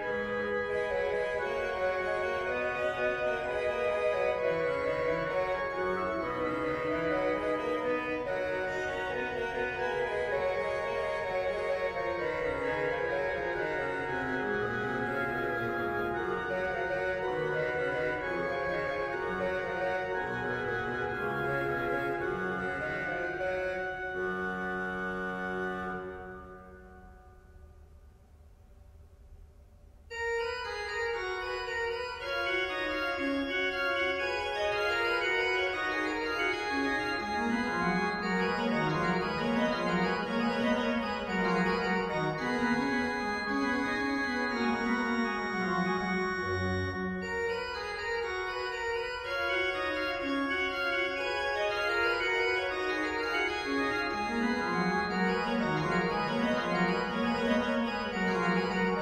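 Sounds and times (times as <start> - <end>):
pipe organ playing: 0.0 - 27.5, 30.1 - 59.0.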